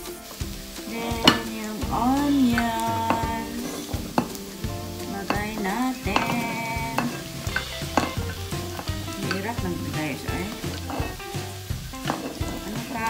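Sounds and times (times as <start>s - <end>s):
background music: 0.0s - 13.0s
meat sizzling in a frying pan: 0.0s - 13.0s.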